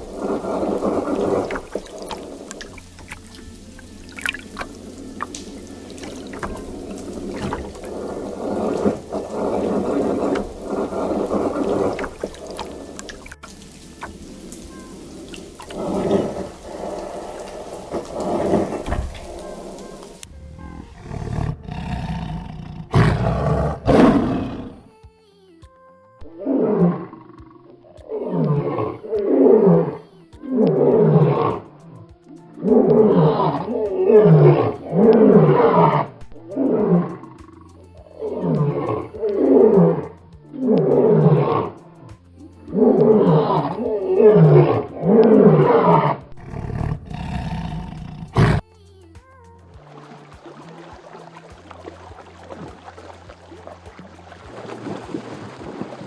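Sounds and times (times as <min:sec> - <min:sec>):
faint background music: 0:00.0 - 0:56.0.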